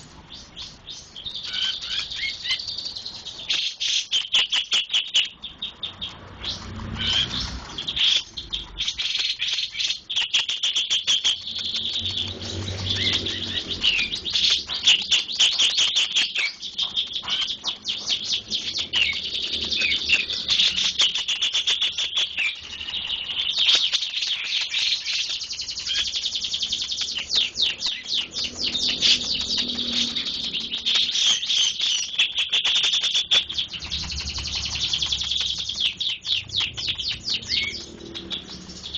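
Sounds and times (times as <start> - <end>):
small songbird chirping: 0.0 - 38.9.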